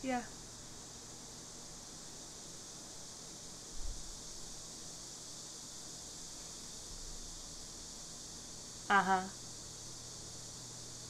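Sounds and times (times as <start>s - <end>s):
microphone hiss: 0.0s - 11.0s.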